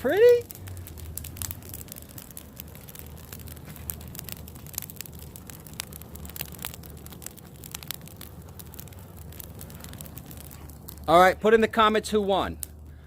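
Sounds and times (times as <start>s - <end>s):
burning tree crackling and popping: 0.0s - 13.0s
low steady rumble: 0.0s - 13.0s.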